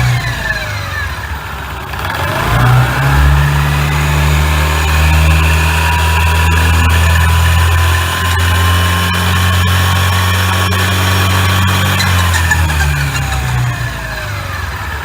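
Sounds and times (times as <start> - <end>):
scooter engine: 0.0 - 15.0.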